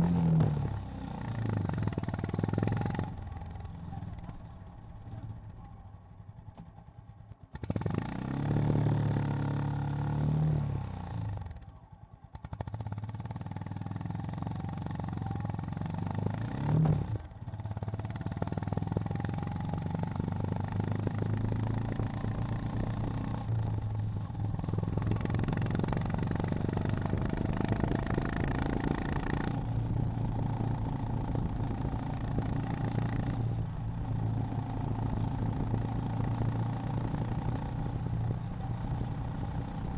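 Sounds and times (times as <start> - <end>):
motorcycle engine running: 1.2 - 10.0, 11.4 - 39.9.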